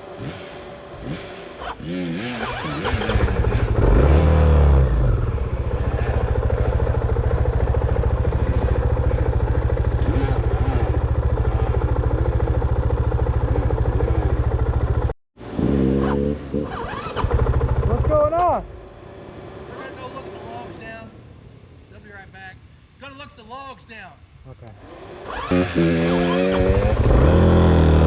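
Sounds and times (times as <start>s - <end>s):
dirt bike engine revving: 0.0s - 20.6s, 24.8s - 28.0s.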